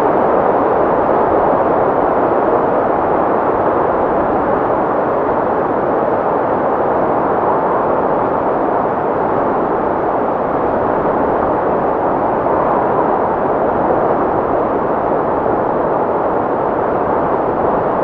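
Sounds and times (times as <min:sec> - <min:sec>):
steady wind blowing: 0:00.0 - 0:18.0.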